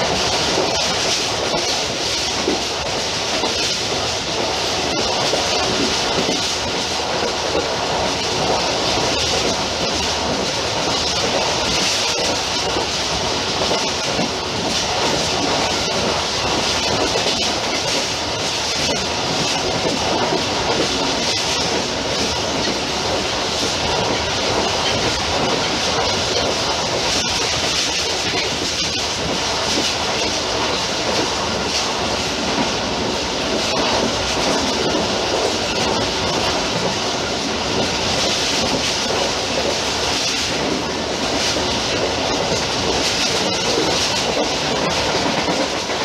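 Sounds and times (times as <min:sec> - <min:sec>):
train wheels on rails: 0:00.0 - 0:46.0.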